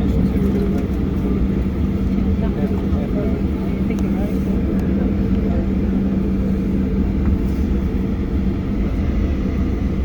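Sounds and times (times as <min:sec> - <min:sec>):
constant cabin hum: 0:00.0 - 0:10.0
jet engines rumbling: 0:00.0 - 0:10.0.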